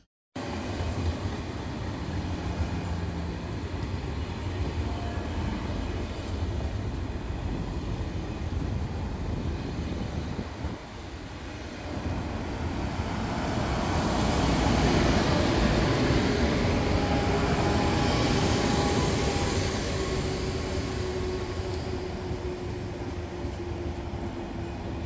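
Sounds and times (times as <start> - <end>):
train rumbling: 0.4 - 25.0.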